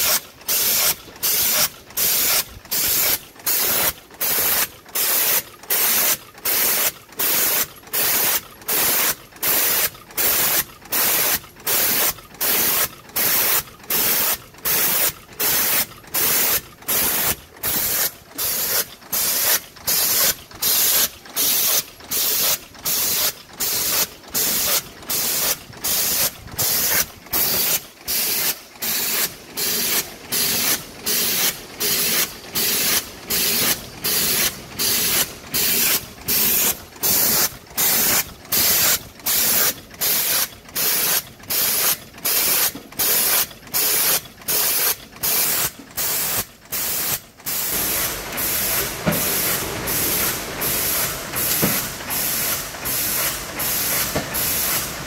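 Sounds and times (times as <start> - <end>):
forming machine strokes: 0.0 - 55.0.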